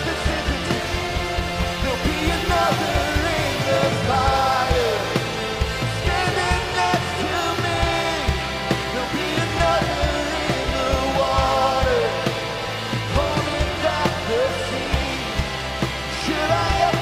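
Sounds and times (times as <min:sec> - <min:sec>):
rock band playing: 0:00.0 - 0:17.0
voices singing: 0:00.0 - 0:17.0.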